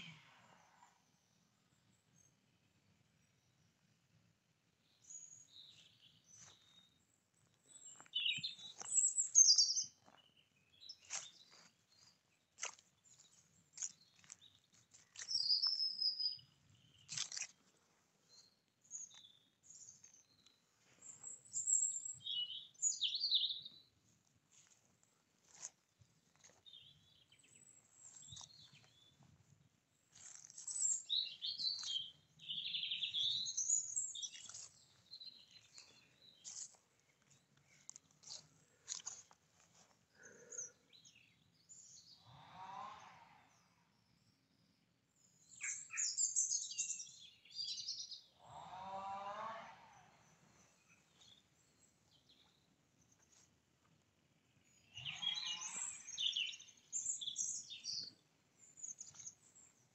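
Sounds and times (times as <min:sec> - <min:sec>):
songbirds chirping and singing: 0:04.8 - 0:23.9, 0:24.5 - 0:29.4, 0:30.1 - 0:42.8, 0:43.5 - 0:48.7, 0:50.1 - 0:59.9.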